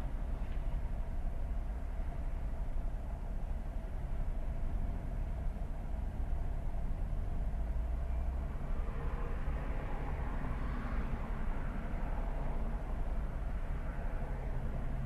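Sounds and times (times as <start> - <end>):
passing traffic: 0.0 - 15.0
vehicle engine rumble from cab: 0.0 - 15.0.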